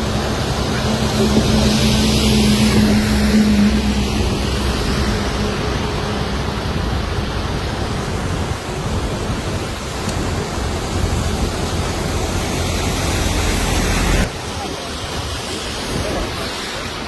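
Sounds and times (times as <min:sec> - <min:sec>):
floodwater rushing in stream: 0:00.0 - 0:17.0.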